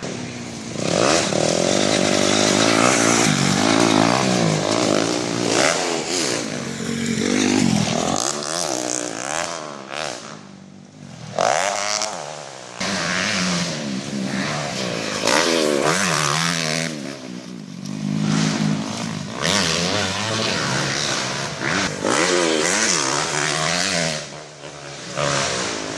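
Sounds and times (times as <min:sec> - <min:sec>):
dirt bike engines revving: 0:00.0 - 0:25.9.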